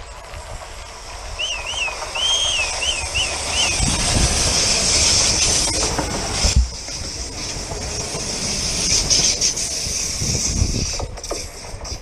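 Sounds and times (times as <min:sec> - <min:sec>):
train wheels hissing on rails: 0:00.0 - 0:12.0
wind buffeting microphone: 0:00.0 - 0:12.0.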